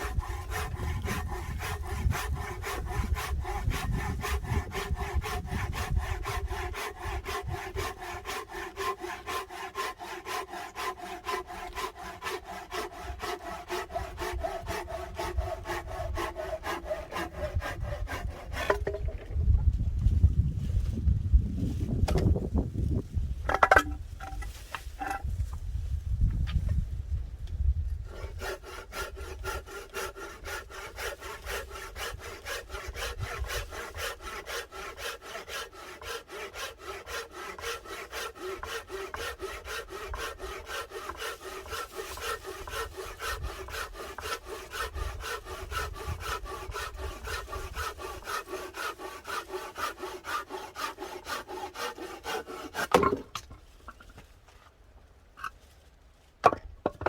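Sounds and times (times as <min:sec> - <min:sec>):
hand saw cutting wood: 0:00.0 - 0:19.4, 0:22.1 - 0:22.4, 0:23.4 - 0:25.6, 0:28.0 - 0:54.3.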